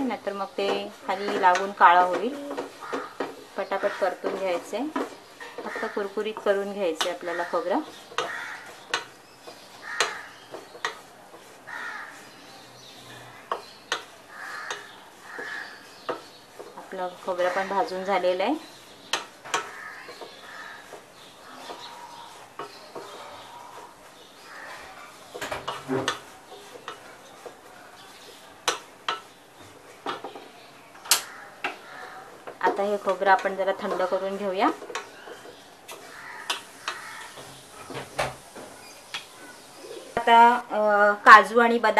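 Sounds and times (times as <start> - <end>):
spatula tapping pan: 0.0 - 12.5, 13.4 - 39.3
spatula scraping pan: 0.0 - 30.5, 31.2 - 38.8.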